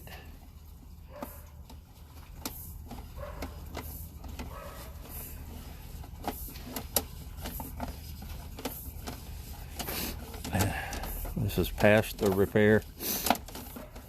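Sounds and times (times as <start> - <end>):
cable clicks and knocks: 1.1 - 14.0.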